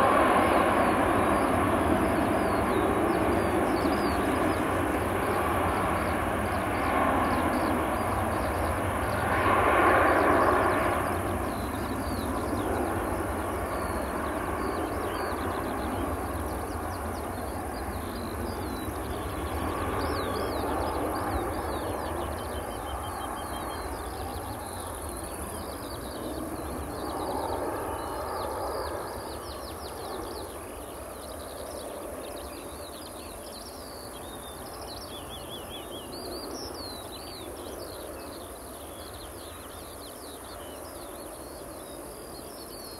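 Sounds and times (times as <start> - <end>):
jet engines rumbling: 0.0 - 42.8
small birds chirping: 0.0 - 42.9.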